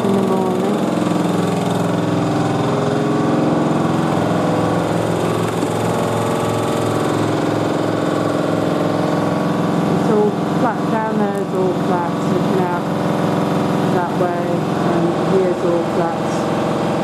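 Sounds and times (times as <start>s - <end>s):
engine running: 0.0s - 17.0s
jackhammer hammering: 0.0s - 17.0s.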